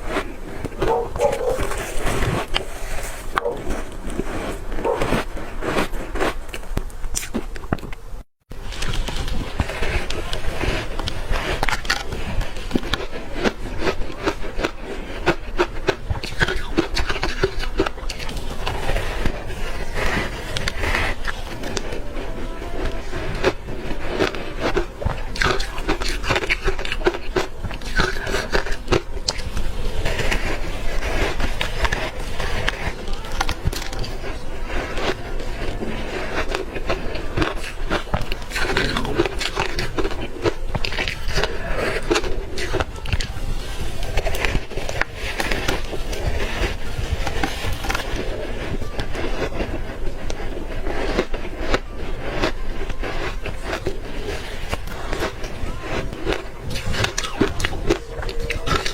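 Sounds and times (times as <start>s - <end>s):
ice chunks crunching: 0.0s - 8.1s, 8.7s - 58.9s.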